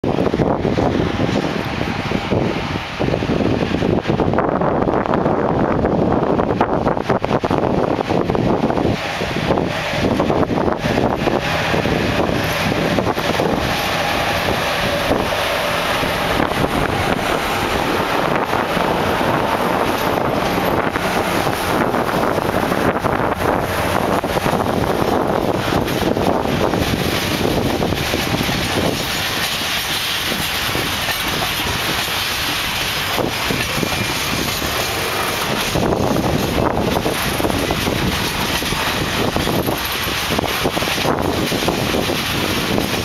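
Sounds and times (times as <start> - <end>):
electric locomotive passing: 0.0 - 43.0
wheels clicking on rail: 0.0 - 43.0
freight wagons rolling by: 8.4 - 43.0.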